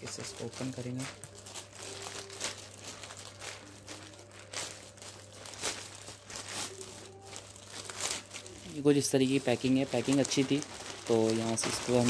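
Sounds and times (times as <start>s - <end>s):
plastic mailer bag crinkling: 0.0s - 12.0s.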